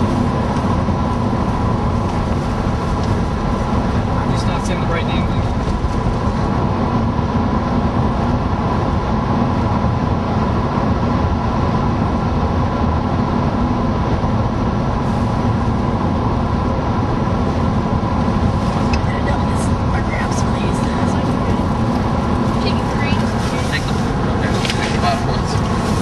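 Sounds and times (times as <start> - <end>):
road and engine rumble inside van: 0.0 - 26.0.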